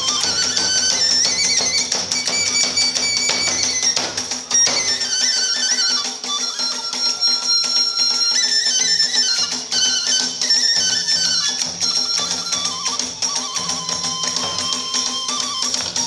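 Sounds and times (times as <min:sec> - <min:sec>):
drum: 0:00.0 - 0:07.6, 0:08.2 - 0:16.0
bamboo flute melody: 0:00.0 - 0:16.0
hand cymbals: 0:00.0 - 0:16.0.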